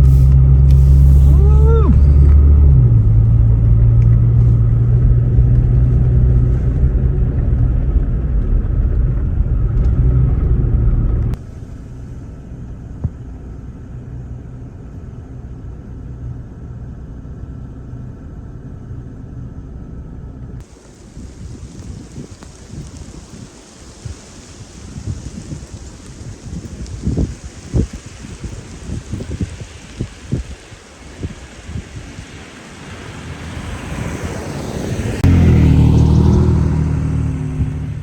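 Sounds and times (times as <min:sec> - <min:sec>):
truck engine and road drone: 0:00.0 - 0:38.0.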